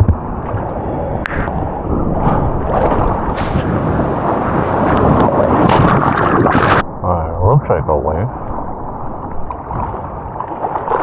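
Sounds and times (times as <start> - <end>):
rushing water: 0.0 - 6.9, 7.7 - 11.0
wind buffeting microphone: 0.0 - 11.0.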